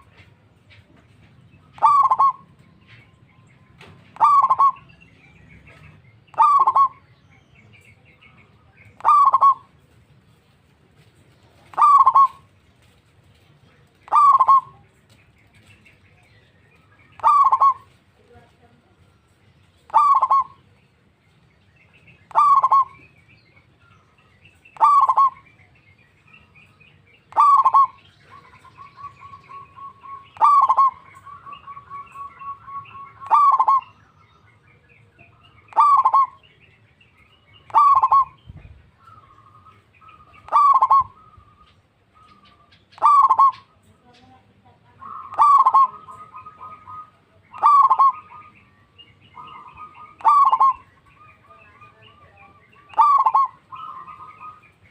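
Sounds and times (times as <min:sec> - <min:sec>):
dove calling: 0:00.0 - 0:54.9
small birds chirping: 0:00.0 - 0:54.9.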